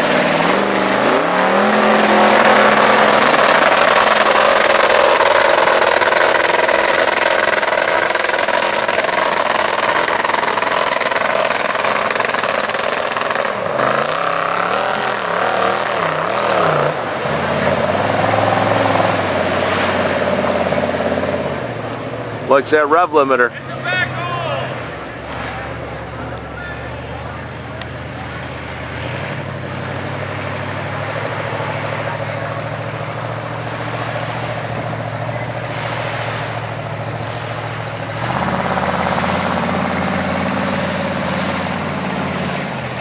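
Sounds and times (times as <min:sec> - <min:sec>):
truck engine revving high: 0:00.0 - 0:43.0.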